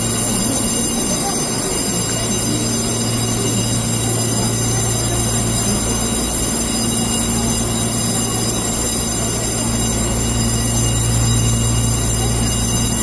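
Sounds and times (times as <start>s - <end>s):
electric train equipment humming: 0.0s - 13.0s.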